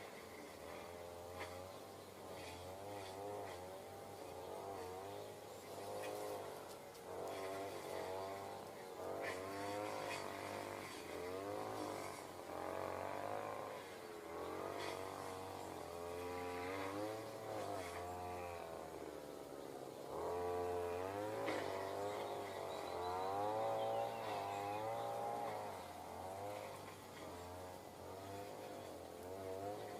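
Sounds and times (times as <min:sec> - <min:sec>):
motor drone wavering in pitch: 0:00.0 - 0:29.9
steady low hum: 0:00.0 - 0:29.9.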